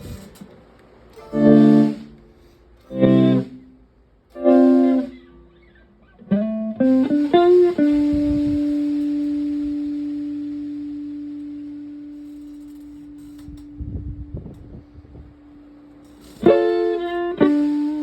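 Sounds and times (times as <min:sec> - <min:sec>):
electric guitar with echo: 0:01.2 - 0:18.0.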